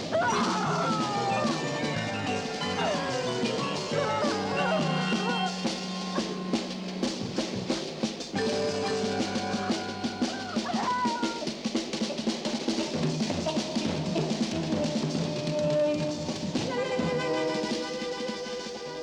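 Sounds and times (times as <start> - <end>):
held instrumental notes: 0.0 - 18.5
fast drum-kit beat: 0.0 - 19.0.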